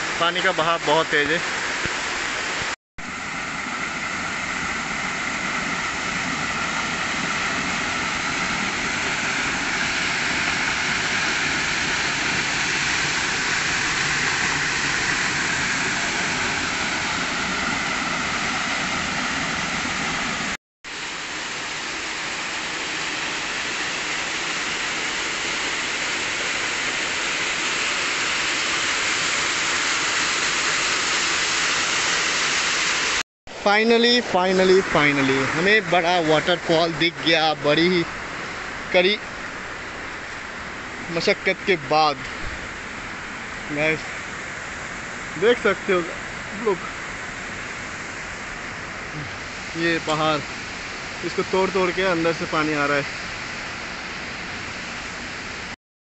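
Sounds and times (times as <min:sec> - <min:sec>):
waterfall pouring over rocks: 0:00.0 - 0:55.8.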